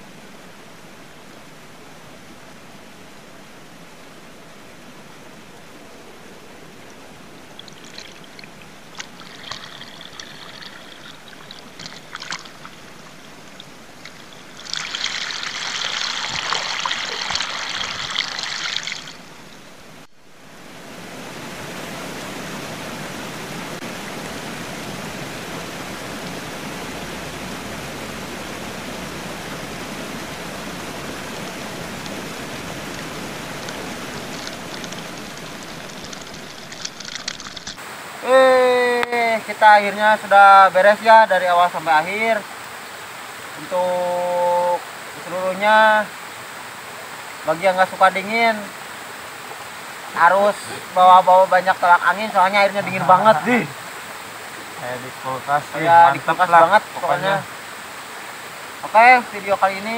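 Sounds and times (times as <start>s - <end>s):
rush of falling water: 0.0s - 59.9s
waterfall splashing: 6.3s - 59.9s.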